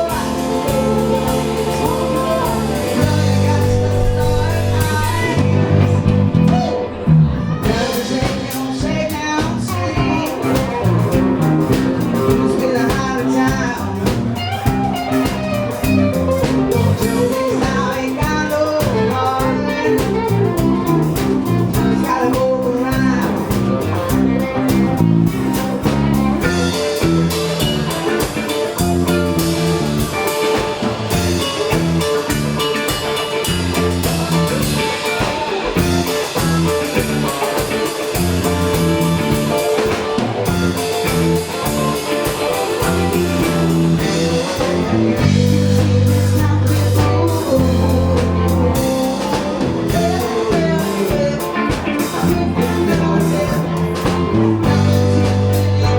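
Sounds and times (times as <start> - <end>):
person singing: 0.0 - 24.7, 26.4 - 55.9
blues guitar: 0.0 - 55.9
drums: 0.0 - 55.9.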